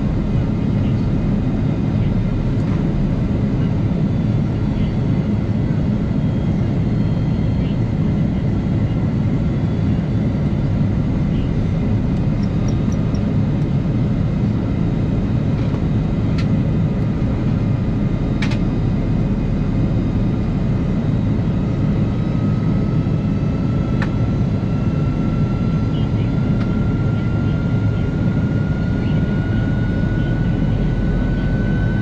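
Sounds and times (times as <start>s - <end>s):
airliner cabin engine noise: 0.0s - 32.0s.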